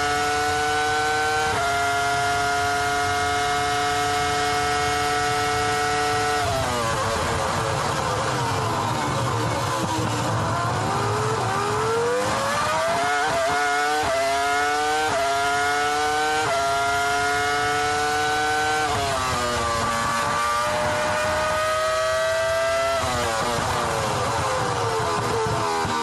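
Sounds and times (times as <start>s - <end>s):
racing car engine shifting gears: 0.0s - 26.0s.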